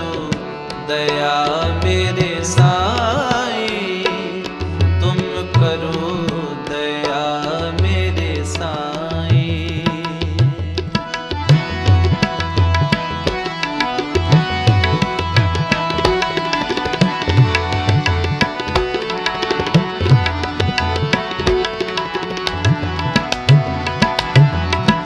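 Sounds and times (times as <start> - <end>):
held melodic accompaniment: 0.0 - 25.0.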